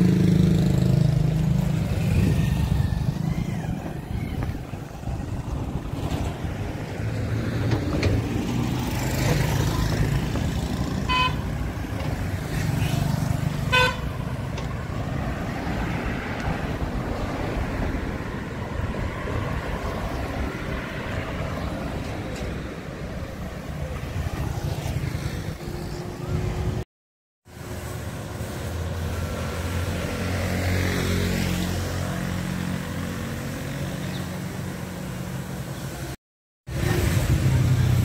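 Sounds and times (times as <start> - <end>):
vehicles passing: 0.0 - 26.9, 27.5 - 38.0.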